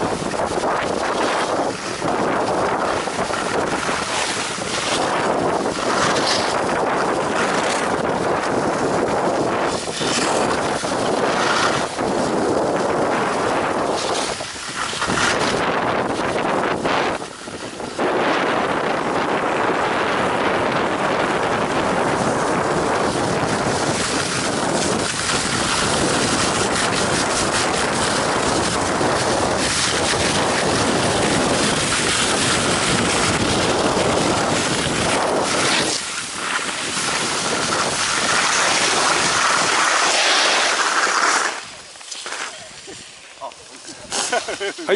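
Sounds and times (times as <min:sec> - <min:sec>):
skis scraping over hard snow: 0:00.0 - 0:44.9
wind rushing over microphone: 0:00.0 - 0:44.9.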